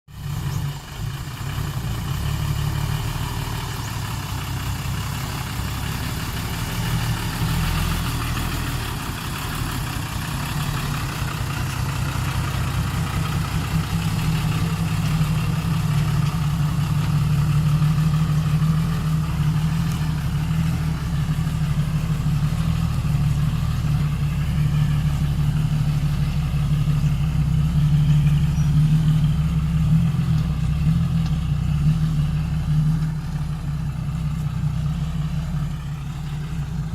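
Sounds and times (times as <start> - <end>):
excavator diesel engine running: 0.1 - 36.9.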